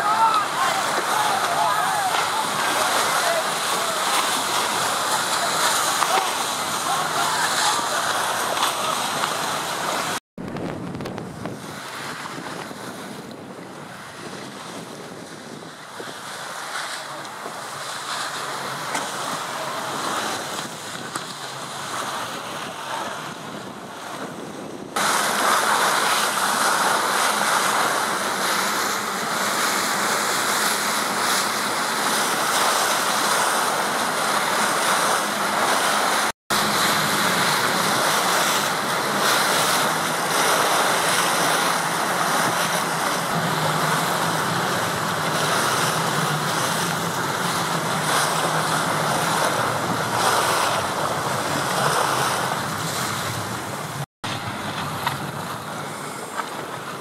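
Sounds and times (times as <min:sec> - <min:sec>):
choppy water and waves: 0:00.0 - 0:57.0
wind blowing across microphone: 0:04.0 - 0:57.0.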